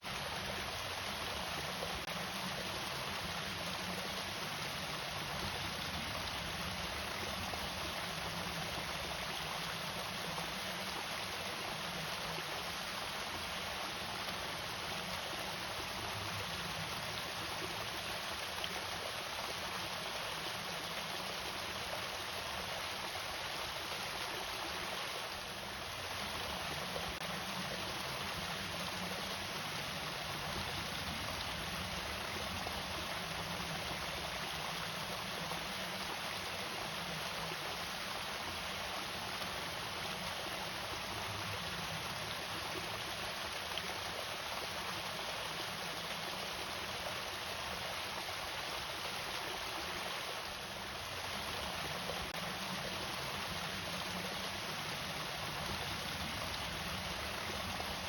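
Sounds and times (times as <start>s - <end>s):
water falling over small waterfall: 0.0s - 58.0s.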